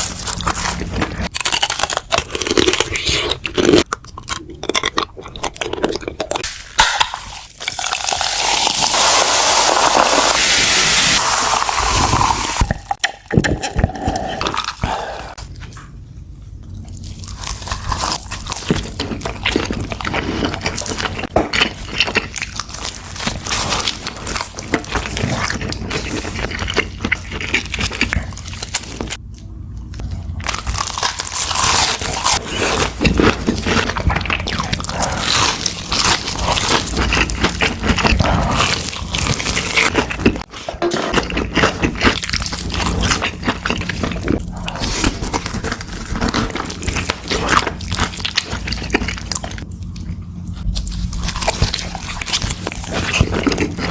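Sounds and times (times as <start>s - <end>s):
crunchy chewing of food: 0.0s - 6.6s, 16.6s - 53.9s.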